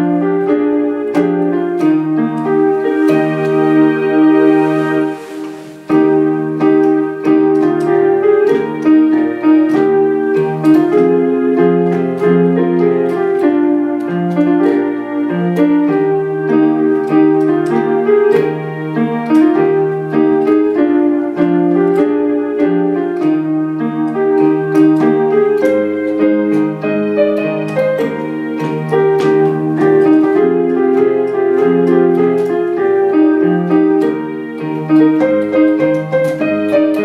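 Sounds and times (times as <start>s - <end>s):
hymn tune on keyboard: 0.0s - 37.0s.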